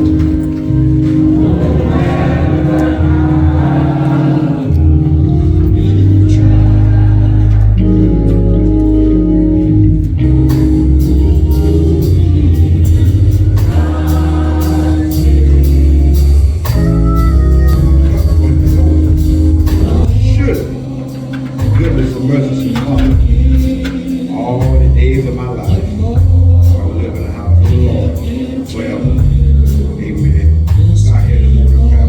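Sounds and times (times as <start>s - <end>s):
heavy bass: 0.0s - 32.0s
organ holding chords: 0.0s - 32.0s
steady percussion beat: 0.0s - 32.0s.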